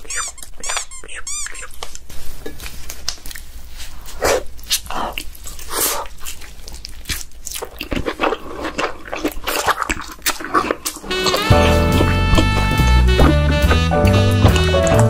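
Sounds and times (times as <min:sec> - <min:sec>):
person chewing with mouth clicks: 0:00.0 - 0:15.0.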